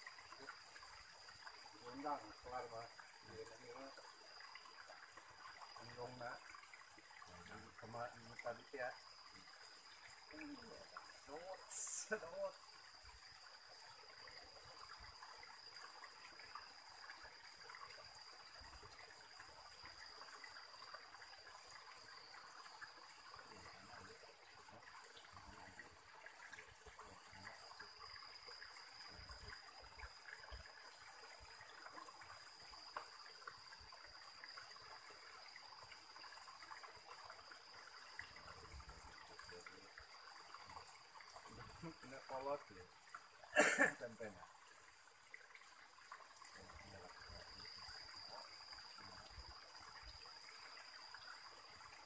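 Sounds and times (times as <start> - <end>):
stream trickling over rocks: 0.0 - 52.0.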